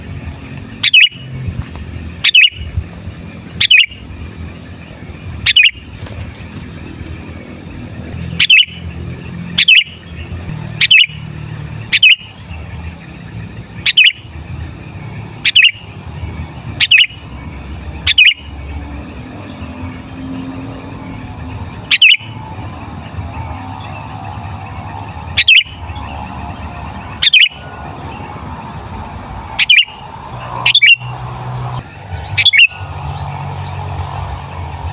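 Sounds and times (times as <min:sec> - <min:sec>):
bulbul calling: 0:00.0 - 0:07.0, 0:07.7 - 0:34.6.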